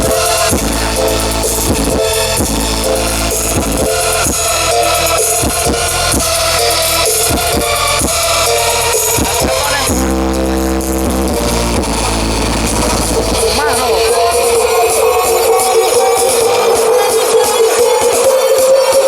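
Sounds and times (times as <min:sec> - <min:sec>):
drum hits: 0:00.0 - 0:15.6
deep bass note: 0:00.0 - 0:16.1
electronic dance music: 0:00.0 - 0:19.0.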